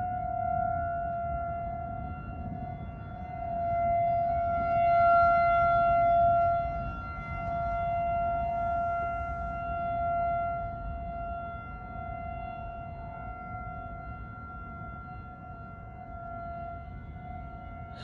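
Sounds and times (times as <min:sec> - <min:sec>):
civil defense siren: 0:00.0 - 0:18.0.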